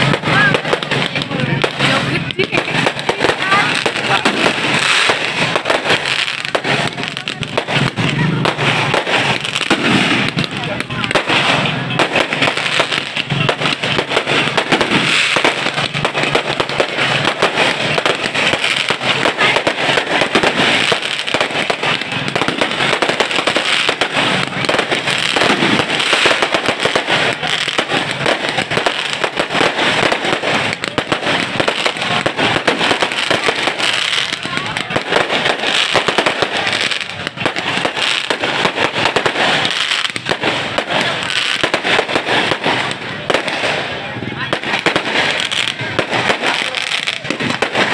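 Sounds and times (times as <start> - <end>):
fireworks popping and crackling: 0.0 - 47.9.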